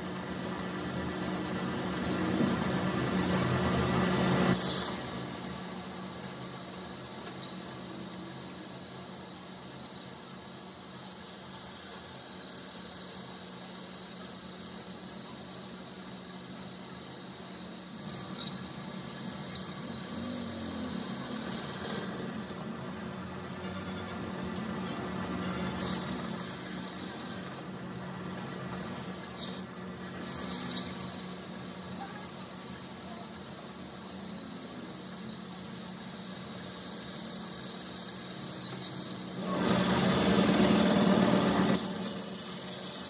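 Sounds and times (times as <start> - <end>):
high-pitched whistling whine: 0.0 - 3.1, 4.2 - 22.9, 25.8 - 43.0.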